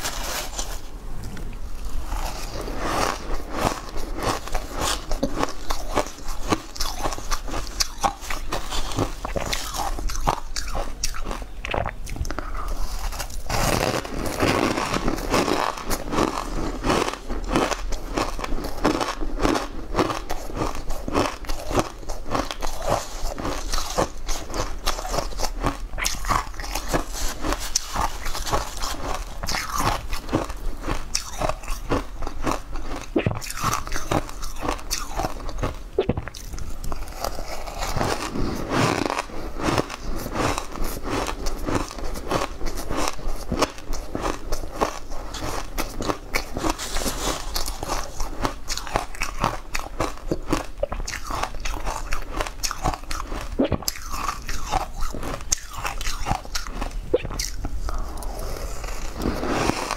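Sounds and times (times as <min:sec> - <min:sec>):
crunching and chewing: 0:00.0 - 0:59.9.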